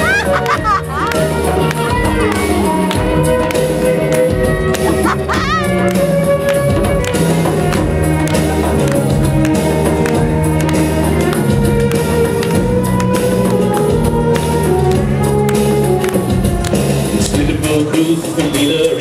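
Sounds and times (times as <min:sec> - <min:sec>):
violin: 0:00.0 - 0:17.4
bass line: 0:00.0 - 0:19.0
live band playing loud music: 0:00.0 - 0:19.0.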